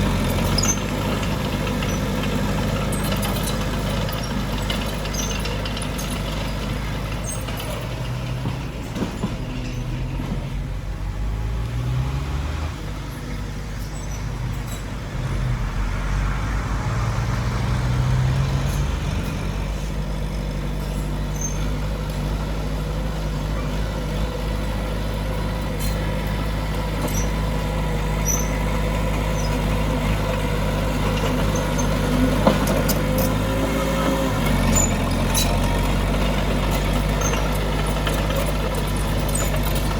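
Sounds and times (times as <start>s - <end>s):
heavy diesel engines under load: 0.0s - 39.9s.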